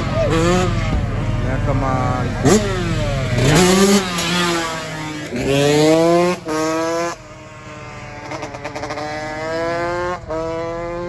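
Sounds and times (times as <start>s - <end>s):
scooter engines revving: 0.0s - 11.0s.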